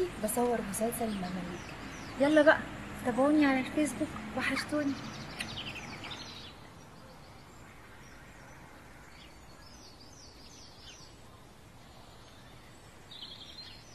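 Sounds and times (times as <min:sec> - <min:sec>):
low background hiss: 0:00.0 - 0:13.9
small birds chirping: 0:00.0 - 0:13.9.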